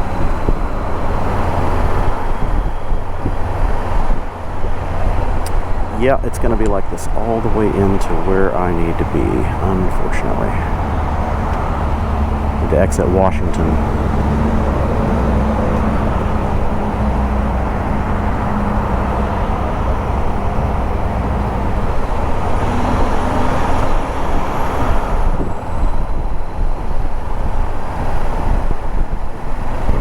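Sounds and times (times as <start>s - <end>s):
road and traffic noise: 0.0s - 30.0s.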